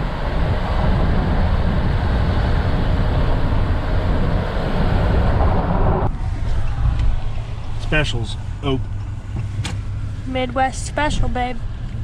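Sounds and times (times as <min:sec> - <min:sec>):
truck road noise: 0:00.0 - 0:12.0
wind noise inside truck cab: 0:00.0 - 0:12.0.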